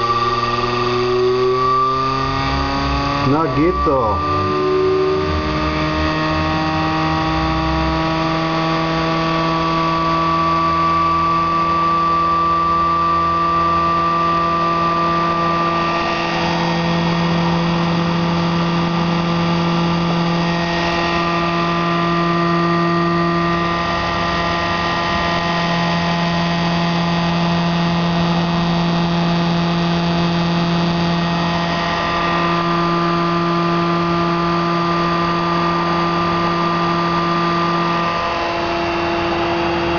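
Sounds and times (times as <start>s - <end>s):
pulse motor whine: 0.0s - 39.9s.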